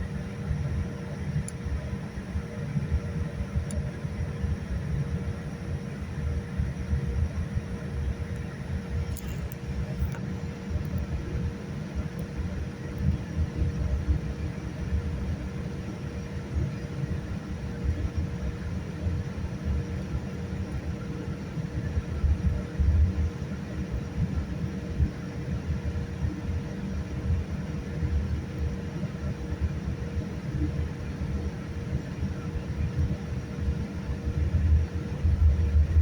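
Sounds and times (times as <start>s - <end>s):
airliner cabin low rumble: 0.0s - 36.0s
faint steady hum: 0.0s - 36.0s.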